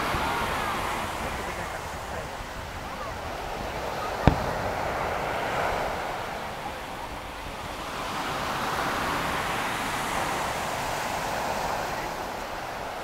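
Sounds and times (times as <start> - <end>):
surf washing up beach: 0.0 - 13.0.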